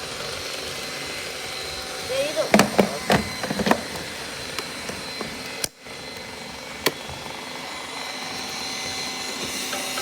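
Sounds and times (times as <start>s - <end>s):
robot vacuum whirring: 0.0s - 10.0s.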